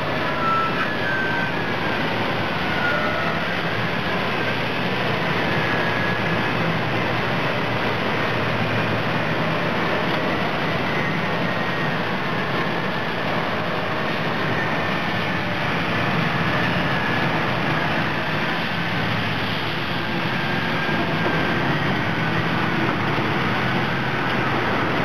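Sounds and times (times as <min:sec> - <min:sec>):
faint high whine: 0:00.0 - 0:25.0
heavy diesel engine drone: 0:00.0 - 0:25.0.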